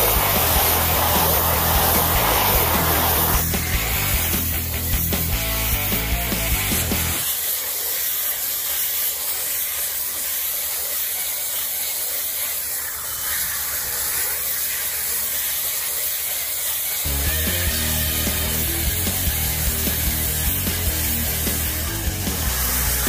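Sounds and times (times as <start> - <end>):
bale wrapper hissing: 0.0 - 23.0.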